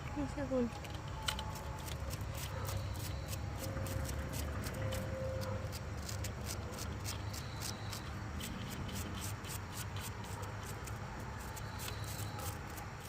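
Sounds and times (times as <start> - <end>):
rubbing and handling noise: 0.7 - 13.0.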